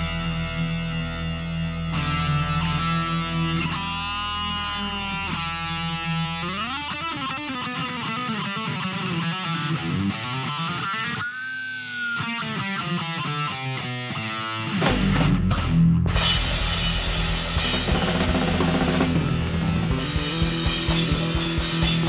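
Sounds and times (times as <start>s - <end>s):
electric guitar rock instrumental: 0.0s - 22.0s.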